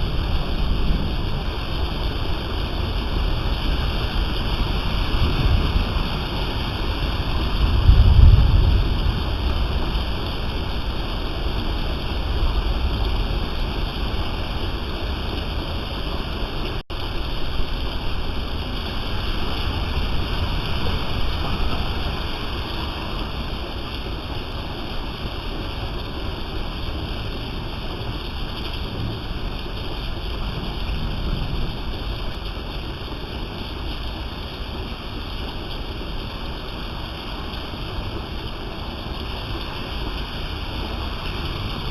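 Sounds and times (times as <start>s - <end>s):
rain falling steadily: 0.0s - 41.9s.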